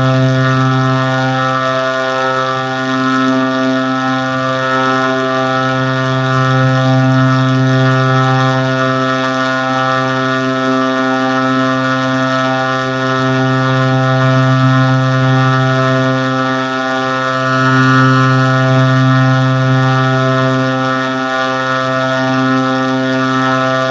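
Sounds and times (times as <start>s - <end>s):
loud low drone: 0.0s - 23.9s.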